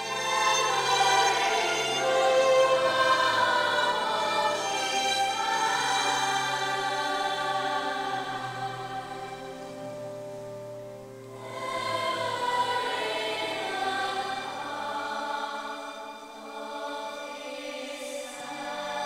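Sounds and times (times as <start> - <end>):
children's choir singing: 0.0 - 19.0
violin: 0.0 - 19.0.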